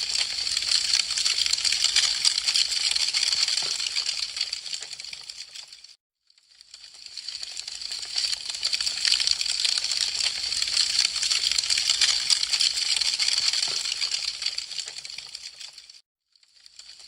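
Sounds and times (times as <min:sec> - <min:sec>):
wood fire crackling: 0:00.0 - 0:06.0, 0:06.8 - 0:16.0.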